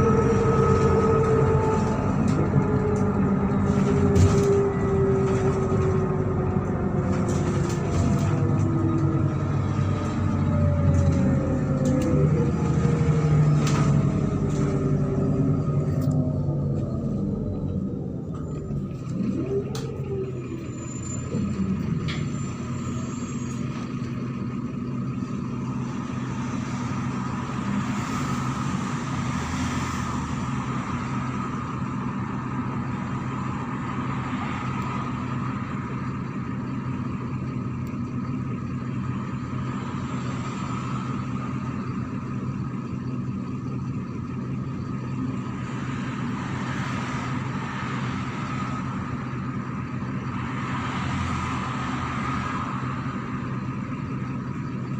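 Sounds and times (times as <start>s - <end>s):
bus diesel engine running: 0.0s - 54.9s
road noise: 0.0s - 54.9s.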